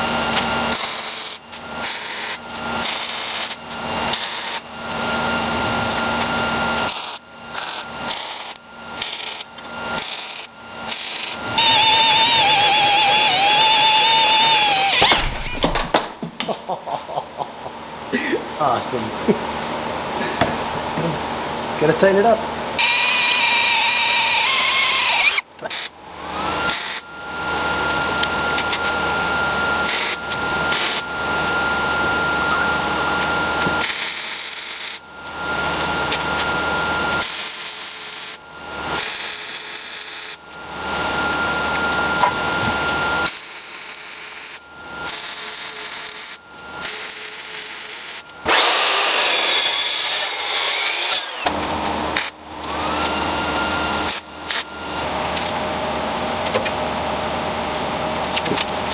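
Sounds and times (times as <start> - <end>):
electric power tool whining: 0.0 - 16.2, 22.8 - 55.1.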